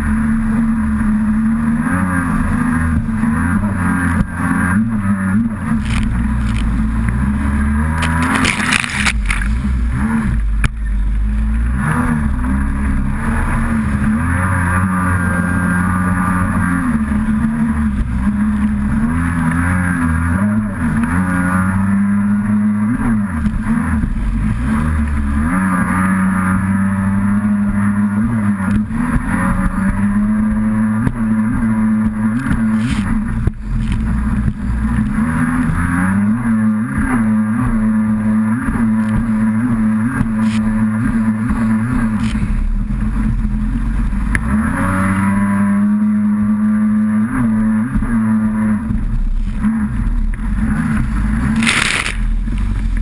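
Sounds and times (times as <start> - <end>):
jet ski engine running hard: 0.0 - 47.1, 47.8 - 53.0.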